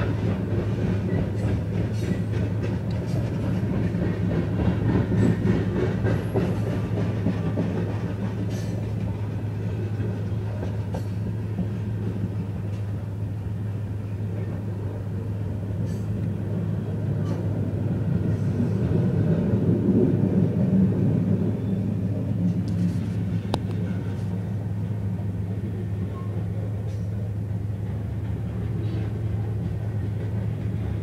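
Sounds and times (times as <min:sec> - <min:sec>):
moving vehicle rumble: 0:00.0 - 0:31.0.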